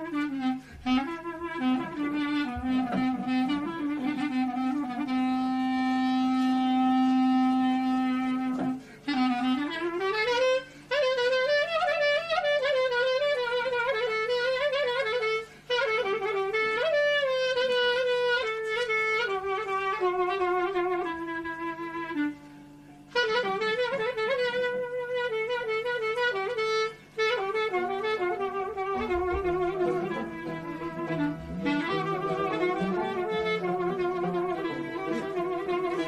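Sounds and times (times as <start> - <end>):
solo clarinet improvisation: 0.0 - 36.0.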